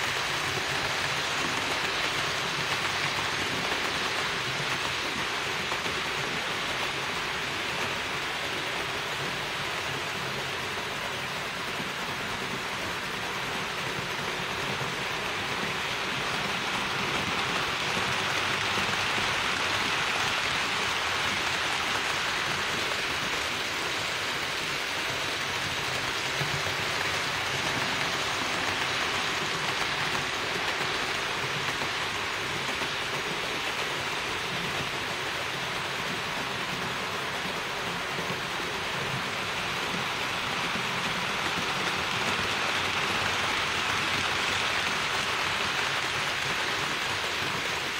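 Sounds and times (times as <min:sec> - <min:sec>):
model train wheels rolling on rails: 0:00.0 - 0:47.9.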